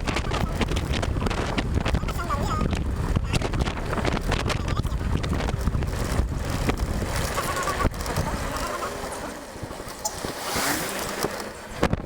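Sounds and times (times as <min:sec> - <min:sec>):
passing road noise: 0:00.0 - 0:12.0
wind buffeting microphone: 0:00.0 - 0:12.0.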